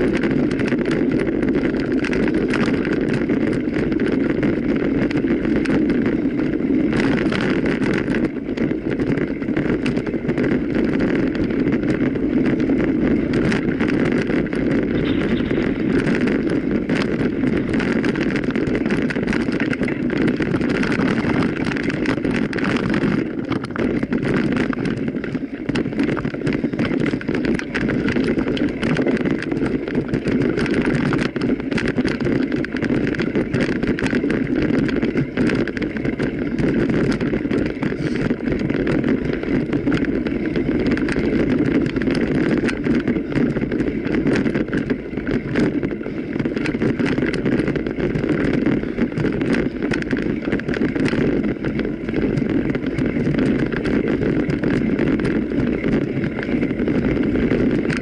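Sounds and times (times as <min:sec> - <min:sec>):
bike knocks and rattles: 0:00.0 - 0:58.0
bike tyres rumbling on trail: 0:00.0 - 0:58.0.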